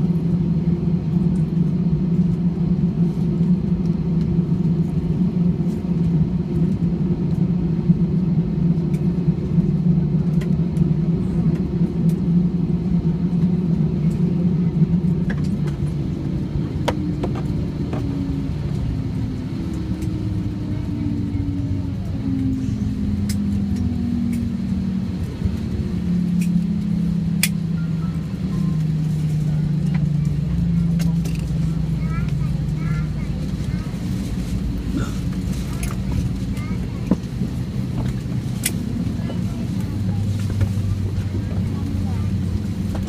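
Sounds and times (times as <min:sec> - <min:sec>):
low engine drone inside vehicle: 0:00.0 - 0:43.0.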